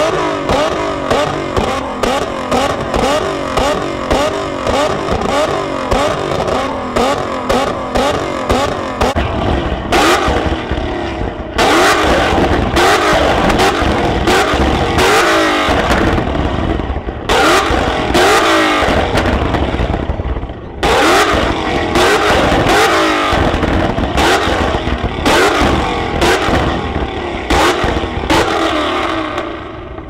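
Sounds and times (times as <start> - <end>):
car engine revving hard: 0.0 - 30.0
exhaust crackling pops: 0.0 - 30.0.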